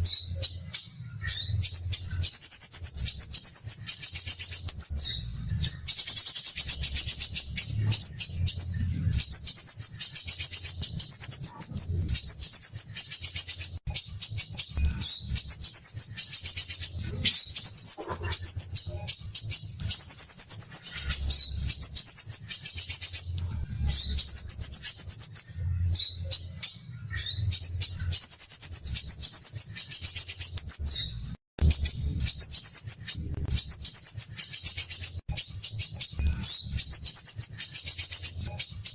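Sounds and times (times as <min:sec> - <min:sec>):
bird singing high trills: 0:00.0 - 0:38.9.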